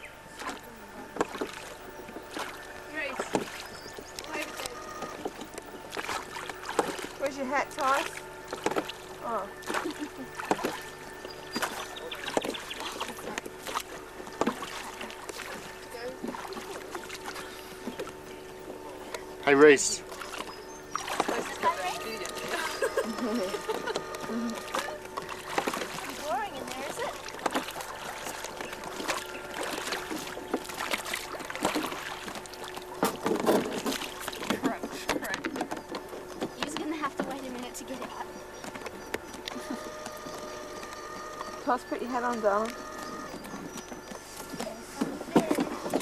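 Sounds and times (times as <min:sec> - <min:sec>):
knocks and clunks on boat: 0:00.0 - 0:46.0
water washing: 0:00.0 - 0:46.0.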